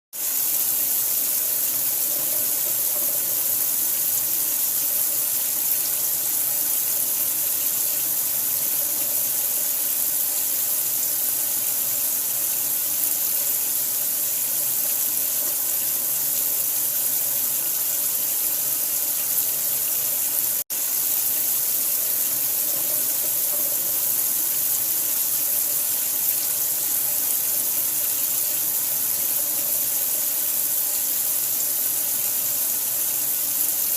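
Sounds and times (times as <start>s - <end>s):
running water: 0.2s - 33.9s.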